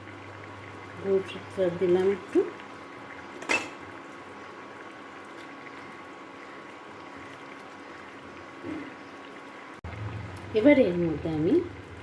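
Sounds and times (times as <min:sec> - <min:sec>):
broth bubbling in a pan: 0:00.0 - 0:12.0.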